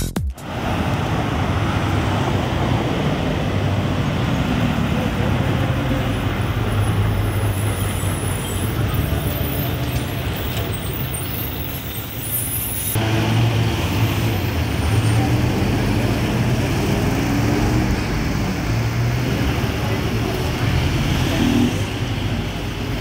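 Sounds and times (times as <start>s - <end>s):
bus diesel engine passing: 0.4s - 23.0s.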